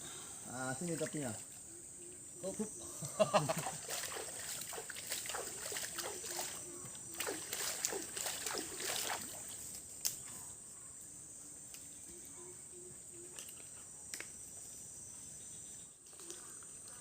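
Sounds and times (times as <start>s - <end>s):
forest insects chorus: 0.0s - 17.0s.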